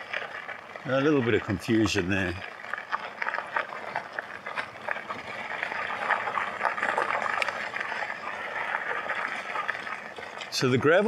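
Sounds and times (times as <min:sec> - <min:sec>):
bike tyres crunching on gravel: 0:00.0 - 0:11.0.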